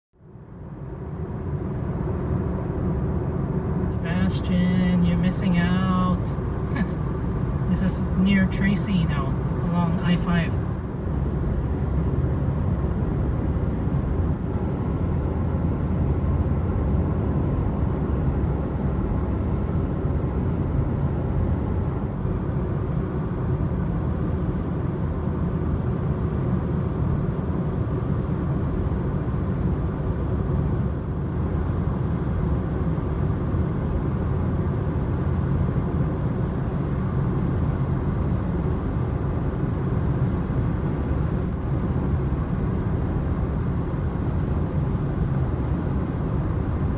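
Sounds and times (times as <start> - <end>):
car engine and tyre rumble: 0.1 - 46.9.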